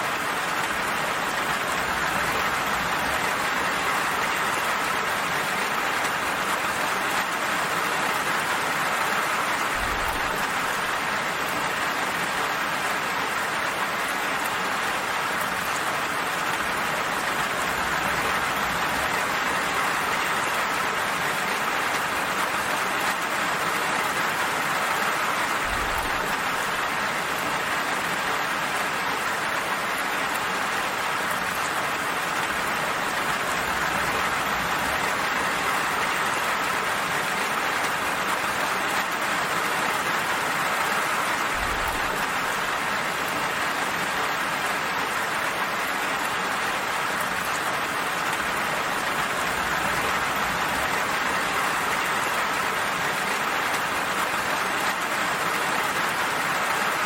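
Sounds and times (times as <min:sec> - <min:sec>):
gentle rain falling: 0:00.0 - 0:57.0.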